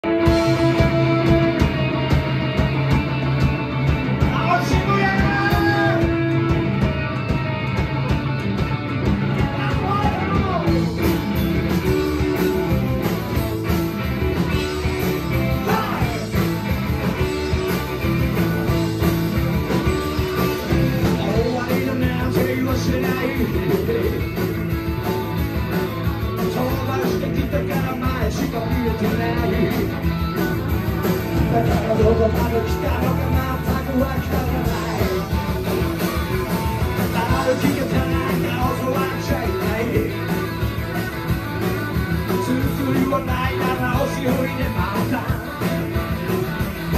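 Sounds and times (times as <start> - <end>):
rockabilly band playing: 0.0 - 46.9.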